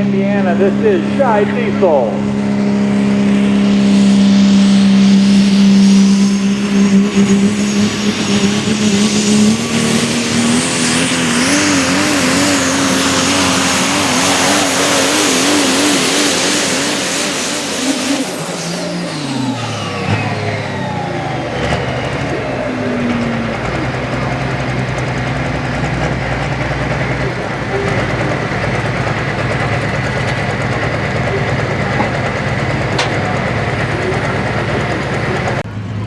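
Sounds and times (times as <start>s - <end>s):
diesel truck engine at full throttle: 0.0s - 36.0s
high turbo whine: 0.0s - 36.0s.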